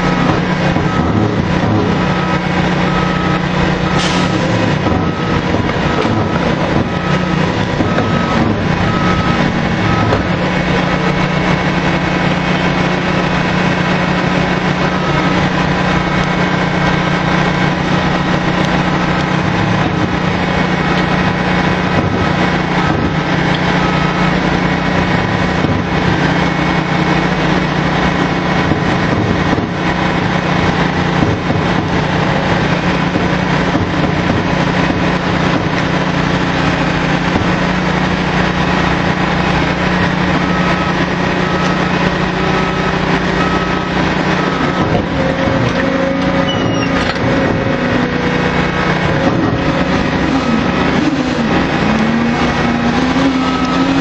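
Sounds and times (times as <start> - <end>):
drilling rig machinery drone: 0.0 - 54.0.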